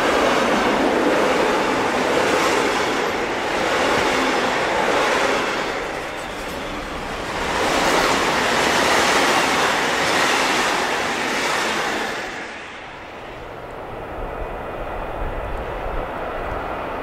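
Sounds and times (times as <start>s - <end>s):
freight train wagons rolling past: 0.0s - 14.2s.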